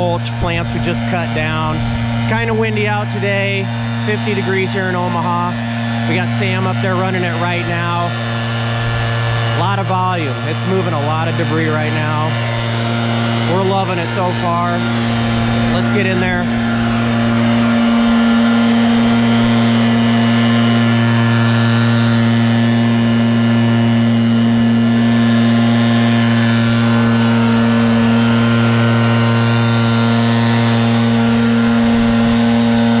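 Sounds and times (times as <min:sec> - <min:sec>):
air rushing from blower tube: 0:00.0 - 0:33.0
leaf blower engine running: 0:00.0 - 0:33.0.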